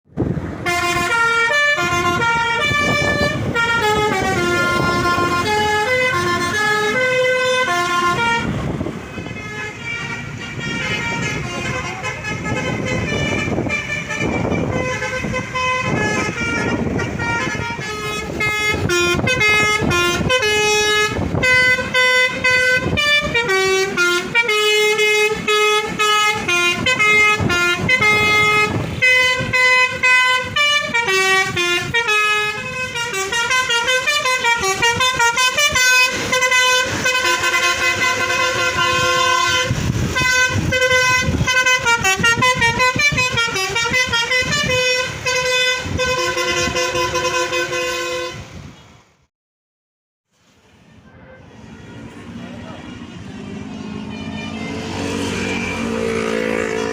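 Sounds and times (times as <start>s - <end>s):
engine and road rumble: 0.0s - 49.3s, 50.2s - 56.9s
multi-tone bus horn tune: 0.2s - 49.1s, 51.0s - 56.9s.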